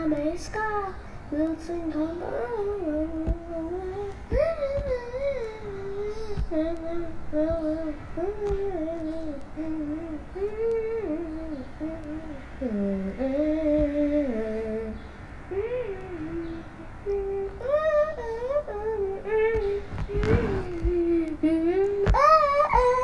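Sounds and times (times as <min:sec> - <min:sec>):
child singing: 0:00.0 - 0:23.0.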